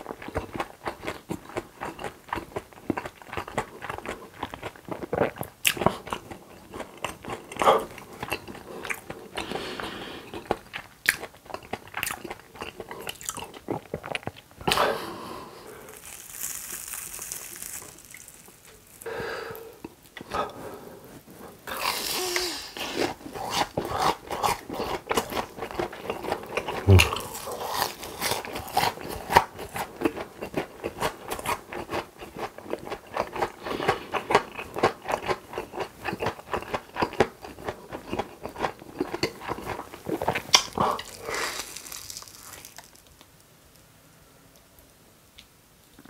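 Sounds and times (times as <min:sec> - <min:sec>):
crunchy food chewing: 0:00.0 - 0:14.8, 0:15.5 - 0:43.4.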